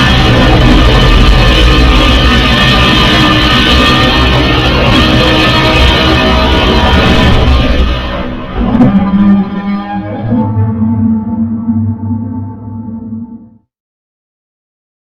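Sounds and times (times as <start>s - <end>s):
distorted monster roar: 0.0s - 13.5s.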